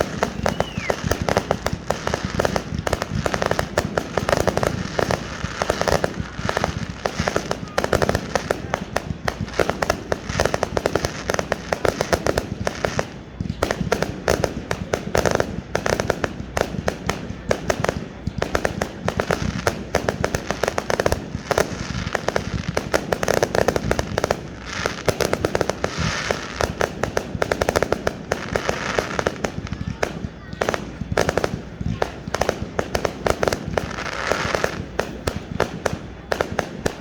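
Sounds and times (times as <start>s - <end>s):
fireworks crackling and banging: 0.0s - 37.0s.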